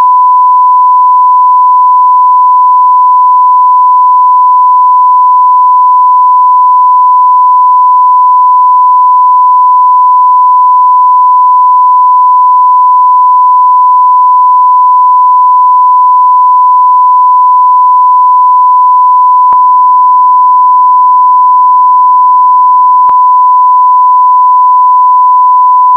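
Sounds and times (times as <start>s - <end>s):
censor bleep tone: 0.0s - 25.9s.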